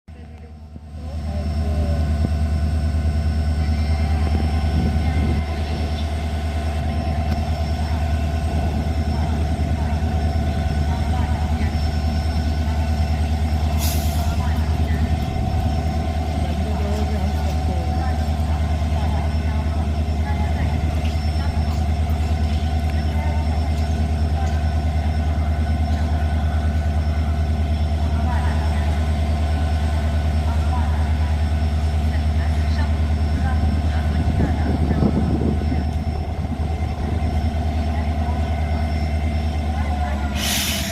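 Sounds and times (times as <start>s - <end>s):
locomotive diesel engine humming: 0.0s - 40.9s.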